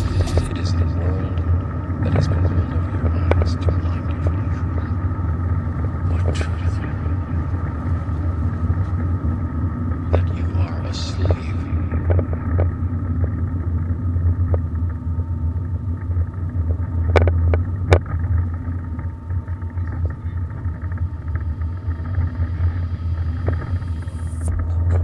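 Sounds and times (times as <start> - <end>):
car engine and road noise drone: 0.0 - 25.0.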